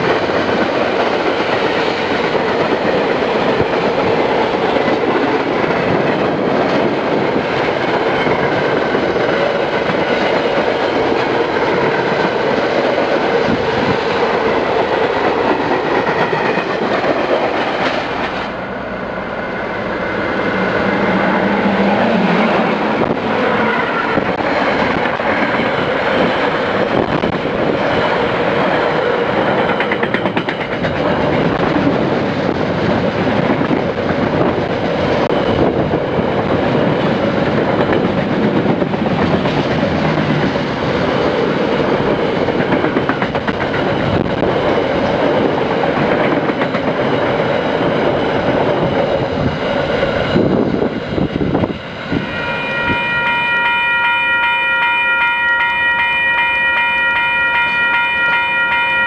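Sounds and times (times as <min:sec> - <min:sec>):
train rolling on rails: 0:00.0 - 0:59.0.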